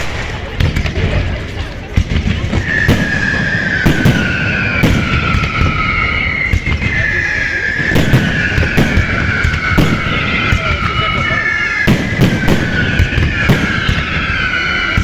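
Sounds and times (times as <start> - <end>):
fireworks bangs and cracks: 0.0 - 15.0
fireworks whistles falling in pitch: 0.0 - 15.0.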